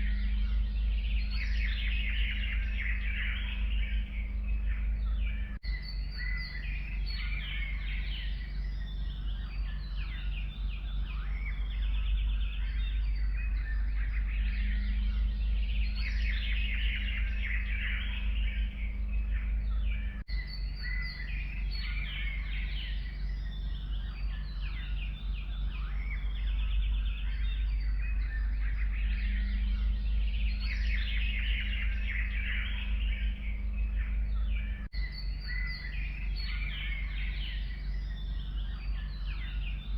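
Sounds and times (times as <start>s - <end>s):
songbirds chirping and trilling: 0.0s - 39.9s
steady low rumble: 0.0s - 39.9s.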